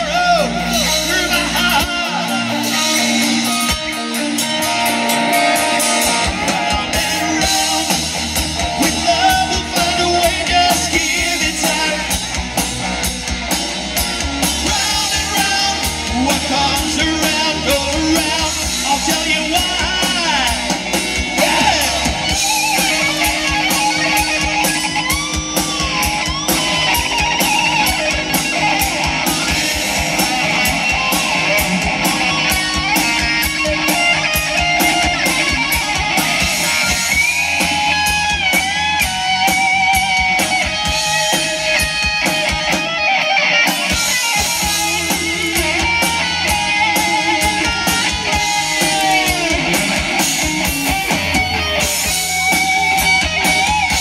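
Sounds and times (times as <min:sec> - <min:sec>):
bass guitar: 0:00.0 - 0:54.0
distorted rhythm guitar: 0:00.0 - 0:54.0
electric lead guitar: 0:00.0 - 0:54.0
steady drum beat: 0:00.0 - 0:54.0.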